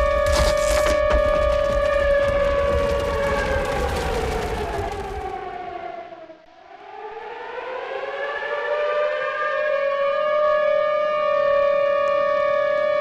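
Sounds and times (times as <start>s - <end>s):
tornado warning siren wailing: 0.0s - 13.0s.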